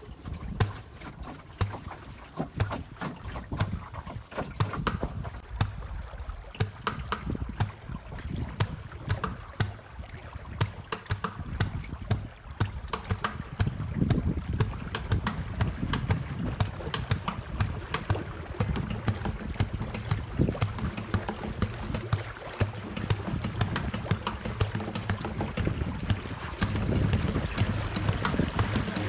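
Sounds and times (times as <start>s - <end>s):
water slapping against wooden hull: 0.0s - 29.0s
wind noise on microphone: 0.0s - 29.0s.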